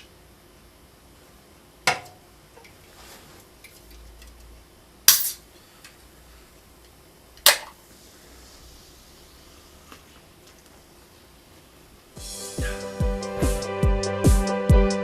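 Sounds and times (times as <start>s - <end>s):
faint room noise: 0.0s - 12.8s.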